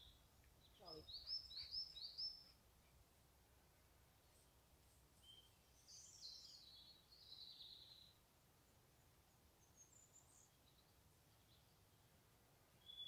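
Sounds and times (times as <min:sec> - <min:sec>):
small songbird singing: 0:00.0 - 0:03.0, 0:04.2 - 0:13.0.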